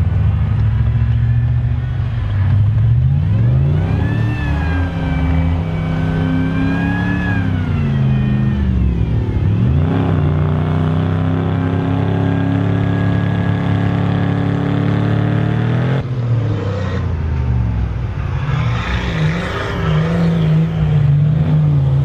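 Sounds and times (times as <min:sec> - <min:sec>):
engine revving in sand: 0:00.0 - 0:22.0.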